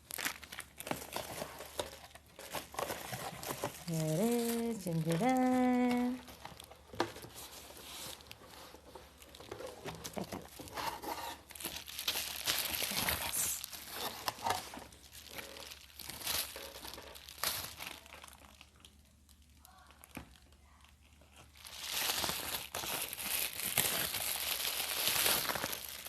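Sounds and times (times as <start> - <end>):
packaging tearing: 0.0 - 19.0, 21.3 - 26.0
packaging crinkling and rustling: 0.0 - 26.0.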